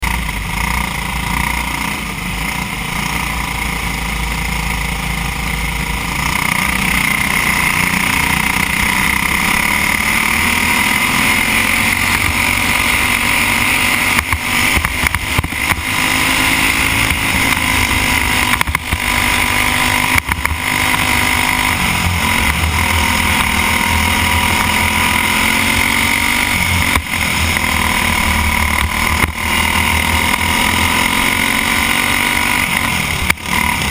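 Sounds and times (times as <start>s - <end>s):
kart engine revving: 0.0s - 33.9s.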